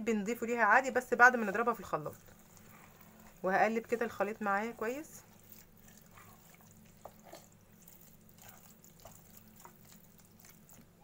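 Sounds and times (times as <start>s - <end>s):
wooden spoon stirring in metal pot: 0.7s - 11.0s.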